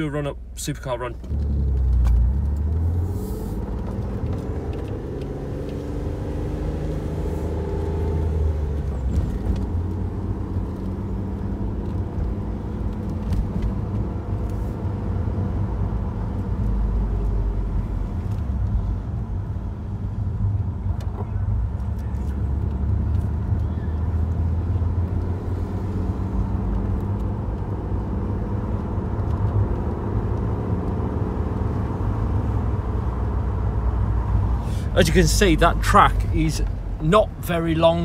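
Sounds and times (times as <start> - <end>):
car engine accelerating: 1.2 - 38.0.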